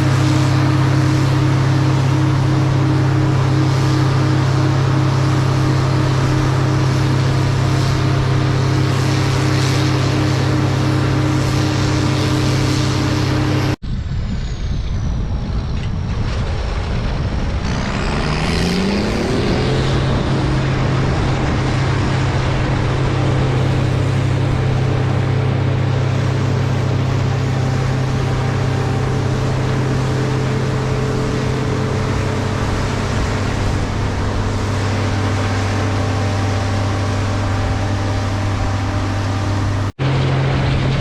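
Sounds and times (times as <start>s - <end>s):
combine engine drone: 0.0s - 41.0s.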